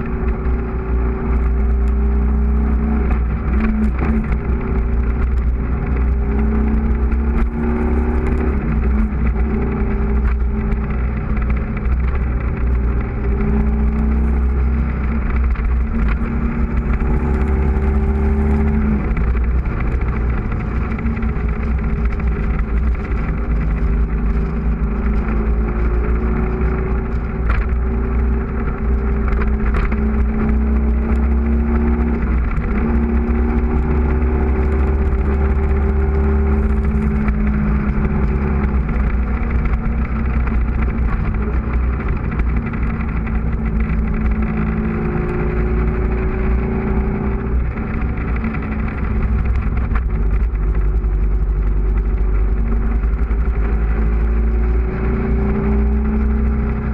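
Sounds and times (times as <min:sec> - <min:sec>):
motorcycle engine accelerating: 0:00.0 - 0:56.9
wind buffeting on camera: 0:00.0 - 0:56.9.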